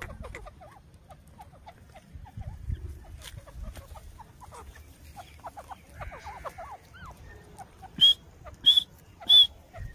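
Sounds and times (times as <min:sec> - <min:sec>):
bird clucking calls: 0:00.0 - 0:09.9.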